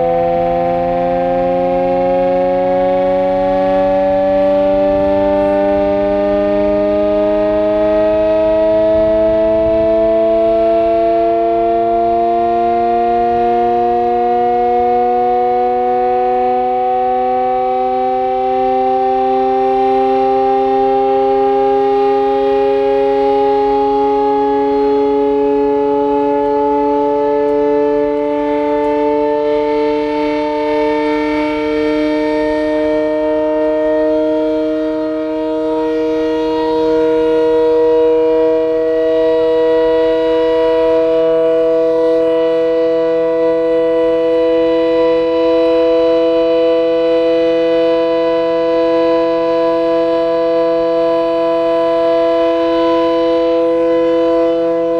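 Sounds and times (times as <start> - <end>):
air-raid siren wailing: 0.0 - 54.9.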